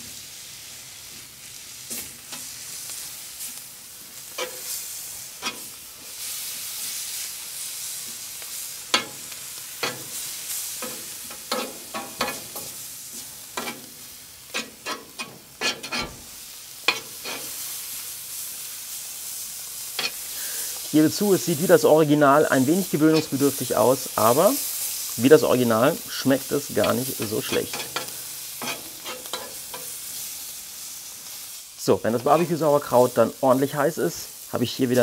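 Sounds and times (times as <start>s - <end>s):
food sizzling on griddle: 0.0s - 35.0s.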